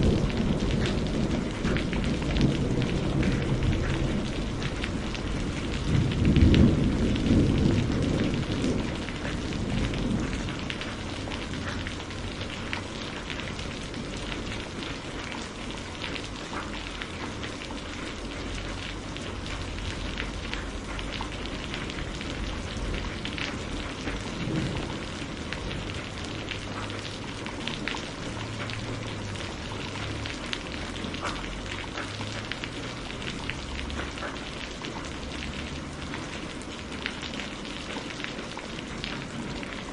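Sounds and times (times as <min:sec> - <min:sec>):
thunder rumbling: 0:00.0 - 0:16.2, 0:17.1 - 0:39.9
raindrops ticking: 0:00.0 - 0:39.9
steady rain falling: 0:00.0 - 0:39.9.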